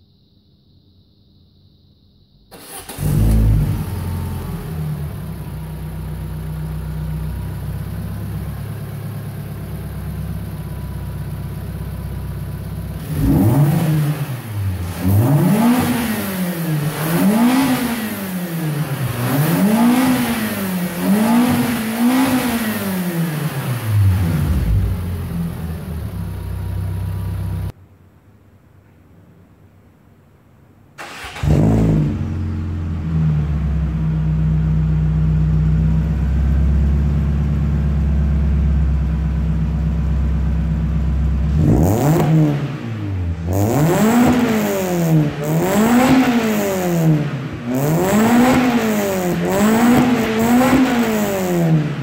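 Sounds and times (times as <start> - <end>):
car engine idling and revving: 2.6 - 27.8, 31.1 - 52.0.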